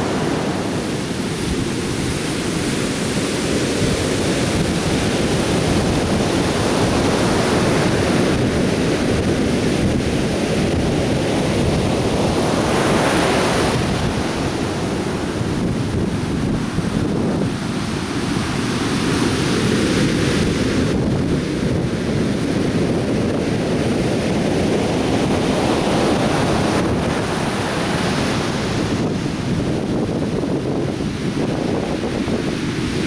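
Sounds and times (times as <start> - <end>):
surf waves breaking on beach: 0.0 - 33.0
wind buffeting microphone: 0.0 - 33.0.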